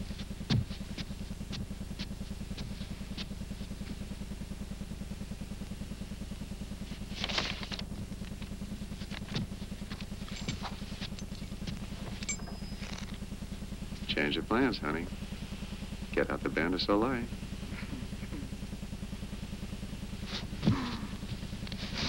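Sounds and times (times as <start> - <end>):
vehicle engine idling: 0.1 - 22.0.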